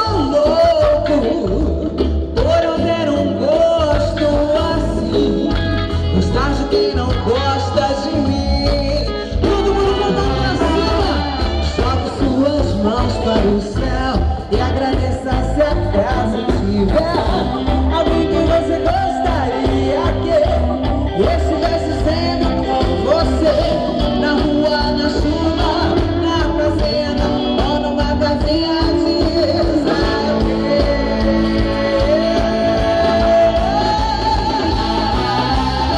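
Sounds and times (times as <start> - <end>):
drums: 0.0 - 35.9
electric bass: 0.0 - 35.9
electric guitar: 0.0 - 35.9
woman singing: 0.0 - 35.9.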